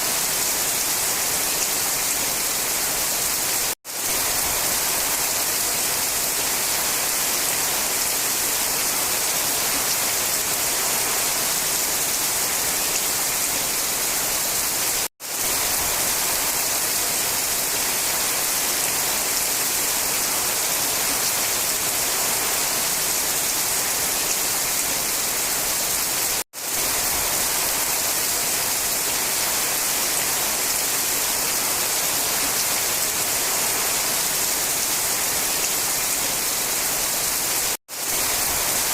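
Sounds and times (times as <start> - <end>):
steady rain in forest: 0.0 - 38.9.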